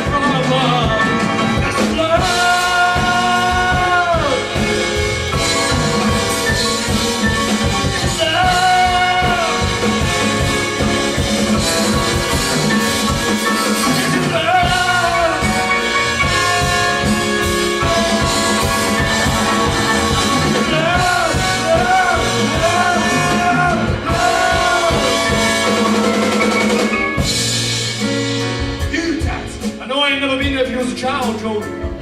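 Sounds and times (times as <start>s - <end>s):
band music: 0.0s - 32.0s
drum kit beat: 0.0s - 32.0s.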